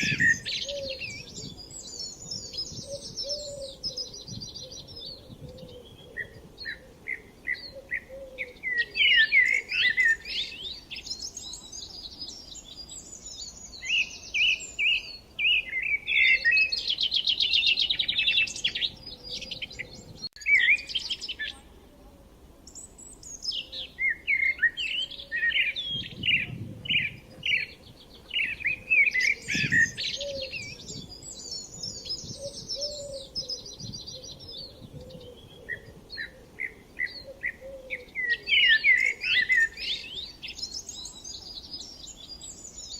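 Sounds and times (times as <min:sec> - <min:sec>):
songbirds chirping and singing: 0:00.0 - 0:21.8, 0:22.6 - 0:42.9.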